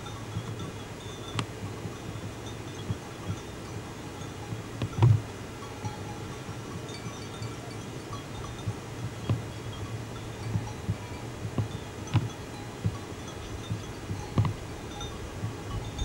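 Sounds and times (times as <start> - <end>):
small bells tinkling: 0.0 - 16.0
steady low hum: 0.0 - 16.0.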